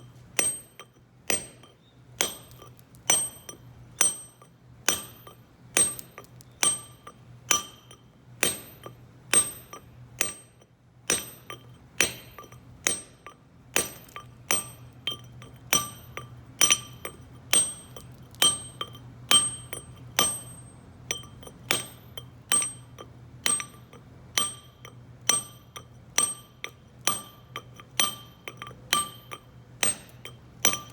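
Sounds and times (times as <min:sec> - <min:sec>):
hammer striking chisel on stone: 0:00.0 - 0:30.9.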